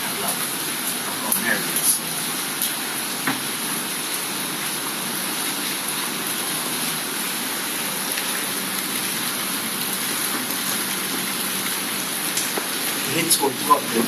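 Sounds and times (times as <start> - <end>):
steady rain hissing: 0.0 - 14.0.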